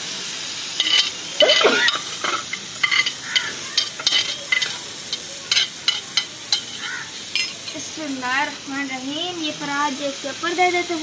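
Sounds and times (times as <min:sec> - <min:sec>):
eggplants sizzling in hot oil: 0:00.0 - 0:11.0.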